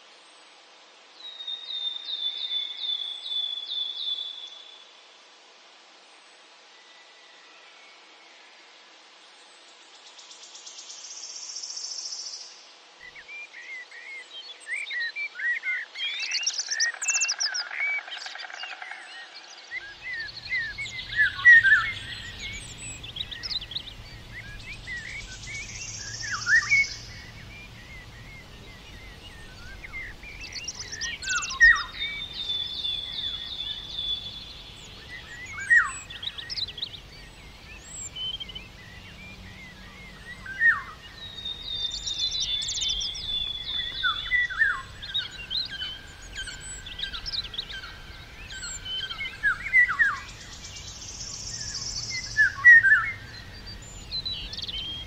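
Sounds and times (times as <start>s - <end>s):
small songbirds chirping: 0.0s - 5.0s, 6.0s - 55.0s.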